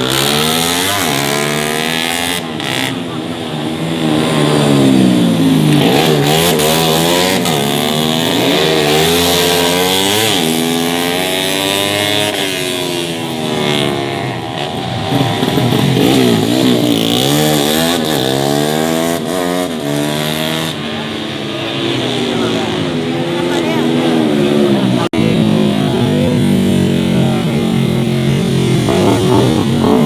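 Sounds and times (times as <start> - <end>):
racing motorcycle engines revving: 0.0 - 30.0.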